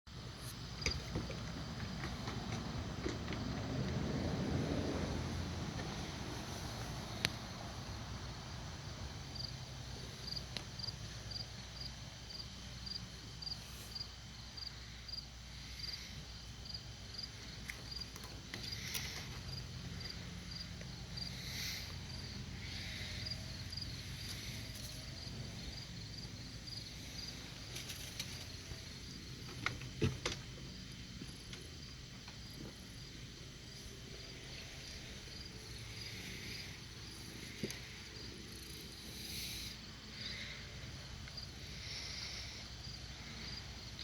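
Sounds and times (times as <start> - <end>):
insect chirping: 5.2 - 44.0.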